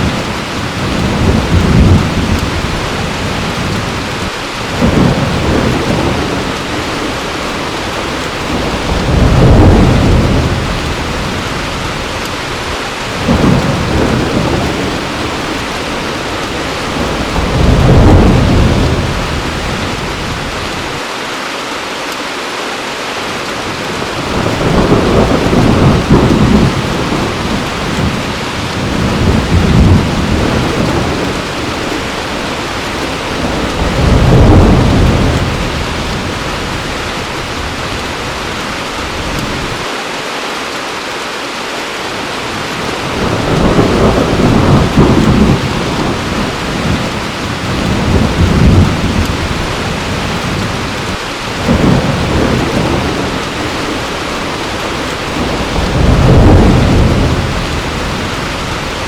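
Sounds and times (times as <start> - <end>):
thunder rolling: 0.0 - 21.0, 23.9 - 39.8, 42.7 - 59.0
heavy rain: 0.0 - 59.0.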